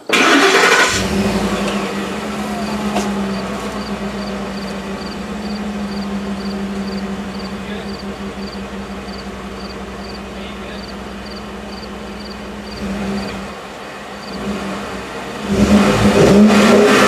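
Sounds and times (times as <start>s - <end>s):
truck engine idling: 0.1s - 17.0s.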